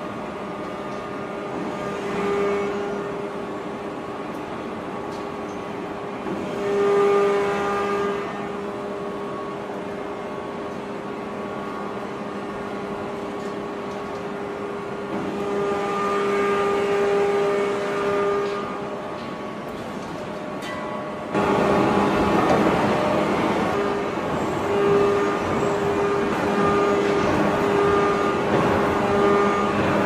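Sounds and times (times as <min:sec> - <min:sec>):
heavy machinery humming: 0:00.0 - 0:30.0
machinery whine: 0:00.0 - 0:30.0.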